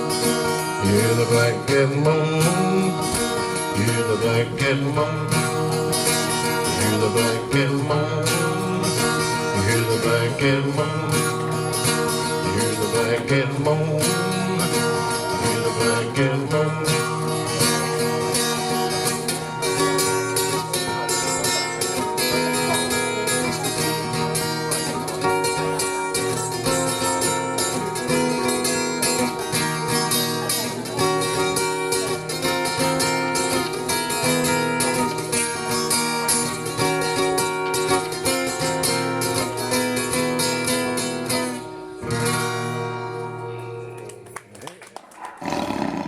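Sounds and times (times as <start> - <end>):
strummed acoustic guitars: 0.0 - 44.4.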